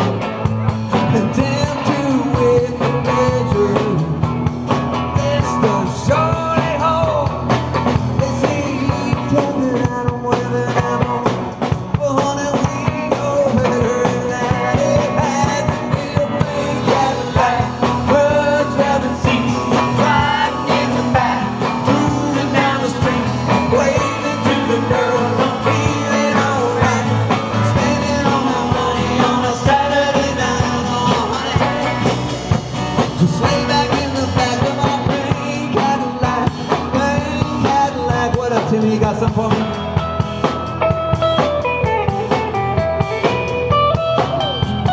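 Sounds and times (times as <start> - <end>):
bass guitar: 0.0 - 44.9
drum kit: 0.0 - 44.9
electric guitars: 0.0 - 44.9
singer singing: 0.9 - 40.5.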